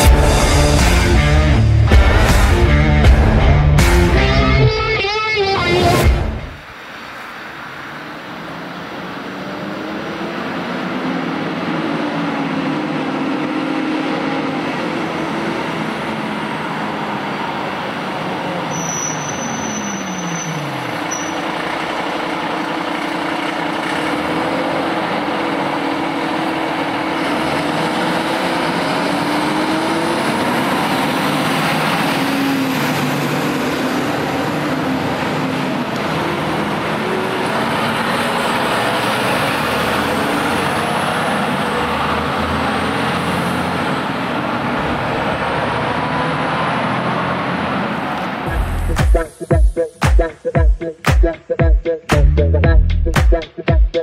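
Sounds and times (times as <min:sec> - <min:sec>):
fire truck engines driving by: 0:05.6 - 0:50.0.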